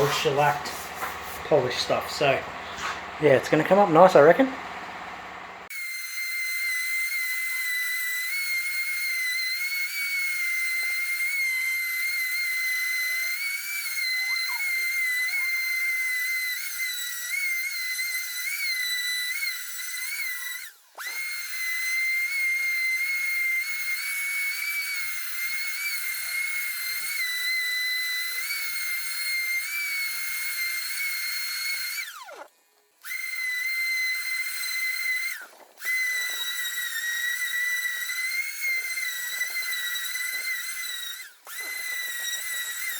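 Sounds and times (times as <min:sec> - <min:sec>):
electric sander motor whine: 0:00.0 - 0:42.9.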